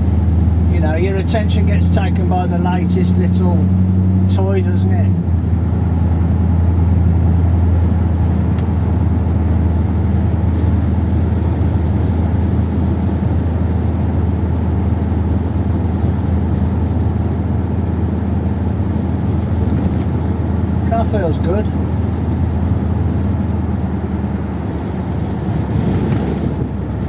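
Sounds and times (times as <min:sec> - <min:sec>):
car engine running: 0:00.0 - 0:27.0
road noise: 0:00.0 - 0:27.0.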